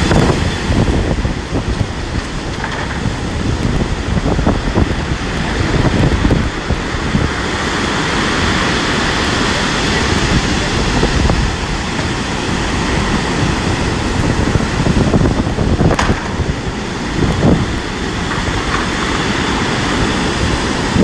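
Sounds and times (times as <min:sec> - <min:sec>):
storm wind buffeting microphone: 0:00.0 - 0:21.0
stormy surf: 0:00.0 - 0:21.0.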